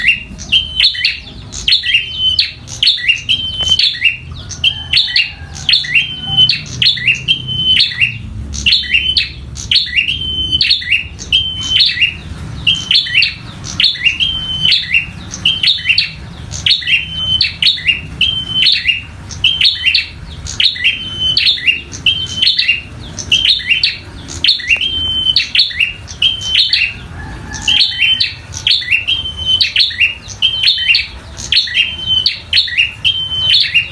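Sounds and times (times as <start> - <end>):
bird sharp high chirps: 0.0 - 33.9.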